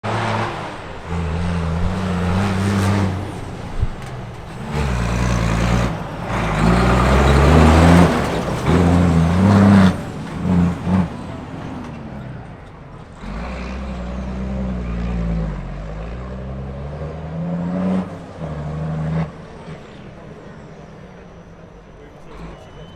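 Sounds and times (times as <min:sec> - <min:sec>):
diesel truck engine revving: 0:00.0 - 0:22.9.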